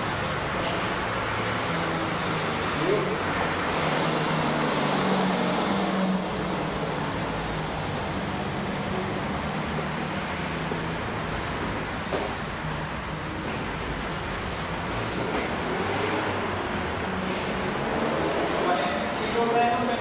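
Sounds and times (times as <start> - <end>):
engine and traffic rumble: 0.0 - 20.0.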